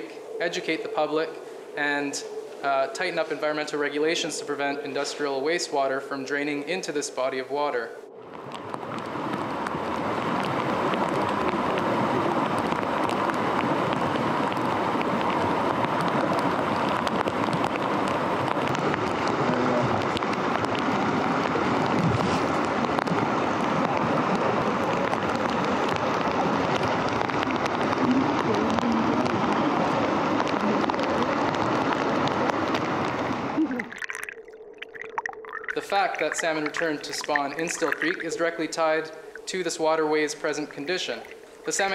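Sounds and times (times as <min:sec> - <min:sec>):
rain pattering: 0:00.0 - 0:41.9
creek rushing: 0:08.3 - 0:41.9.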